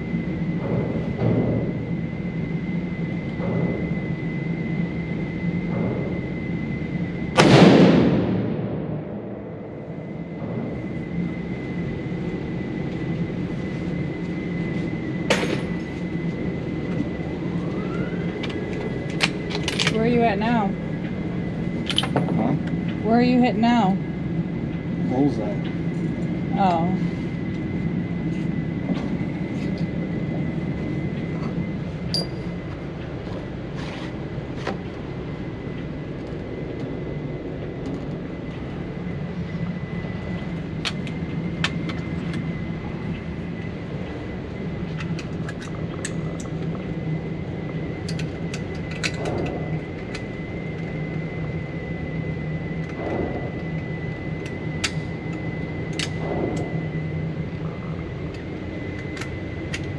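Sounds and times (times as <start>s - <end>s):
ventilation rumble with high whine: 0.0s - 59.9s.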